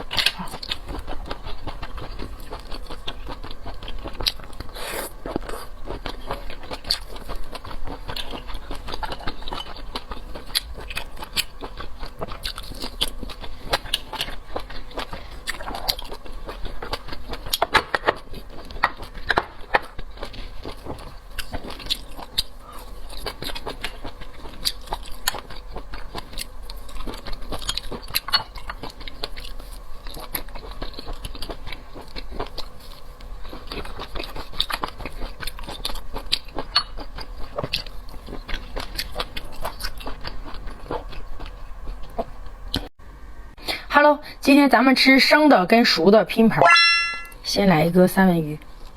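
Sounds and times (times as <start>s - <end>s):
close chewing and eating sounds: 0.0s - 43.0s, 47.9s - 48.9s.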